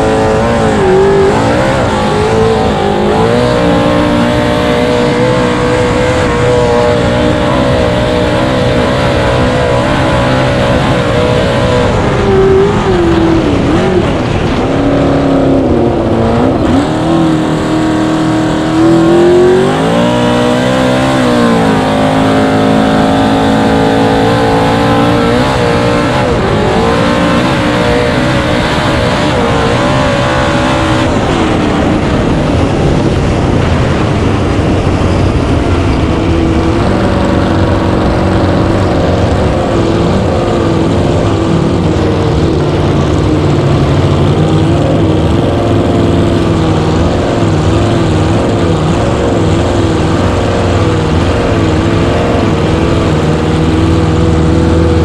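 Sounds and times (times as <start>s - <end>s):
race boat engine running hard: 0.0s - 55.0s
rush of wind and water: 0.0s - 55.0s.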